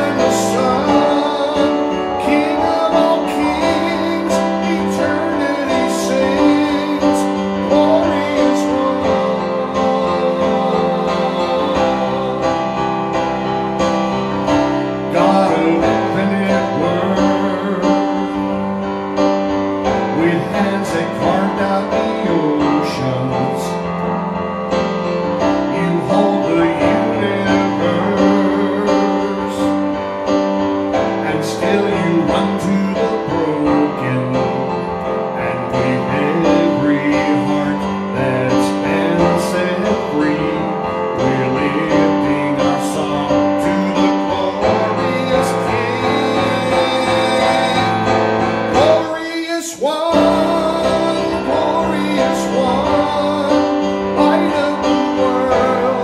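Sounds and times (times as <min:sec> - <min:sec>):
digital piano: 0:00.0 - 0:56.0
man singing: 0:00.0 - 0:56.0.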